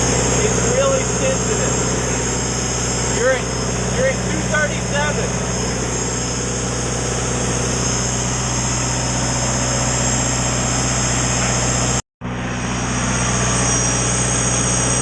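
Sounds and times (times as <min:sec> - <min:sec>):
diesel generator engine running: 0:00.0 - 0:15.0
high whine: 0:00.0 - 0:15.0.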